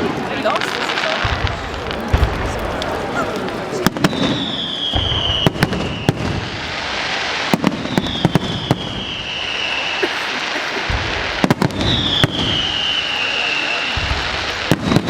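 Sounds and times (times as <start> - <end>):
firework crackle: 0.0 - 15.0
whistling firework: 0.6 - 15.0
firework shells bursting: 0.7 - 15.0.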